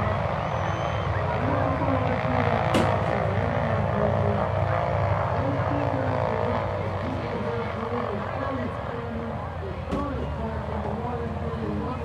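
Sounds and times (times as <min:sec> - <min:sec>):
radial aircraft engines running: 0:00.0 - 0:12.0.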